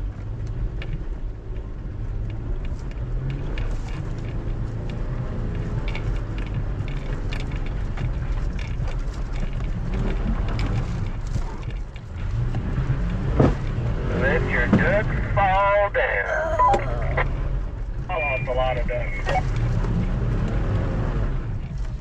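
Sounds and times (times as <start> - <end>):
off-road vehicle engine rumble: 0.0 - 22.0.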